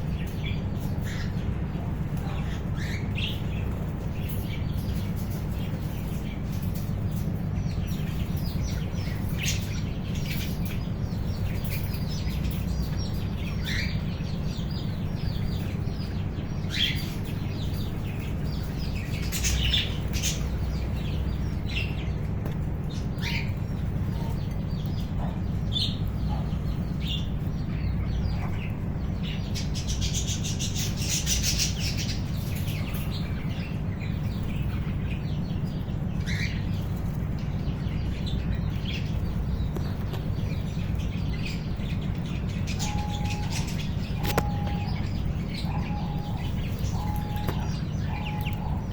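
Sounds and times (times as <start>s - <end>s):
birds chirping and chattering: 0.0s - 48.9s
steady low hum: 0.0s - 48.9s.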